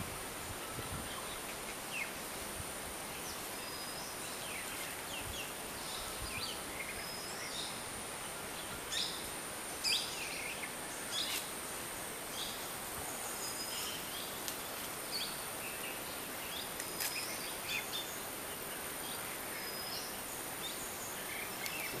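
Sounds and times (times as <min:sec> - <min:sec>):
forest ambience hiss: 0:00.0 - 0:22.0.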